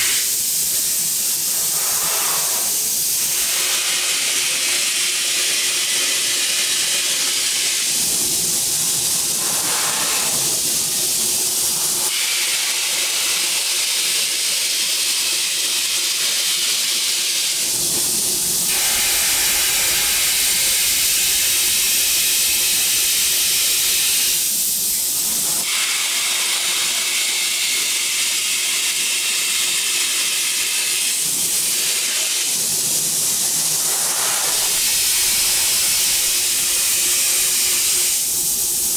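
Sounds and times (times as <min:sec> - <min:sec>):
spray gun hissing: 0:00.0 - 0:14.1, 0:17.4 - 0:27.7, 0:30.4 - 0:38.9.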